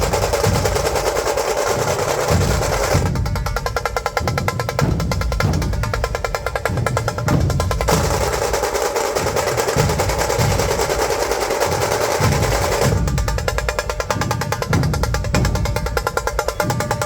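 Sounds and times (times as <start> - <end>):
deep drum beats: 0.0 - 17.0
high drums played fast: 0.0 - 17.0.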